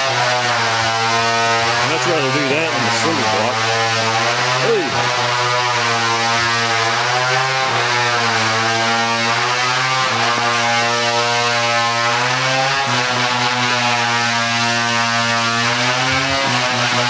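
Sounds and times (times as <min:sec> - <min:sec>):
small engine running steadily: 0:00.0 - 0:17.0.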